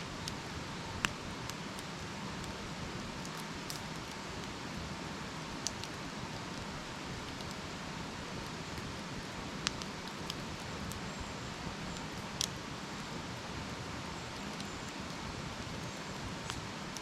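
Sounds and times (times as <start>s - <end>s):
campfire hissing and crackling: 0.0s - 17.0s.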